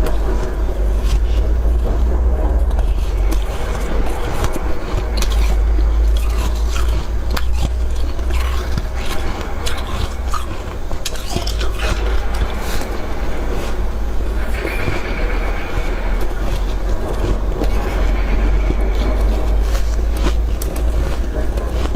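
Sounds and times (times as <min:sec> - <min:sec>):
crunching ice while chewing: 0:00.0 - 0:21.9
steady low rumble: 0:00.0 - 0:21.9.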